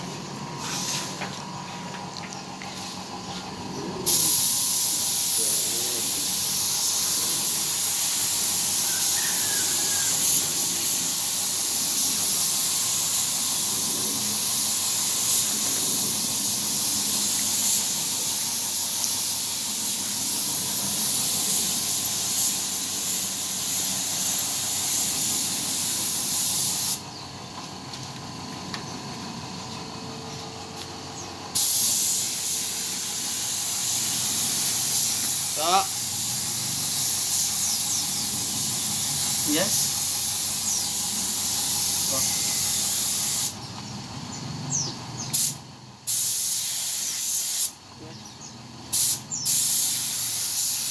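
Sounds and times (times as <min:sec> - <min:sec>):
paint spray gun hissing: 0:00.5 - 0:27.2, 0:30.8 - 0:43.8, 0:45.2 - 0:48.2, 0:48.9 - 0:50.9.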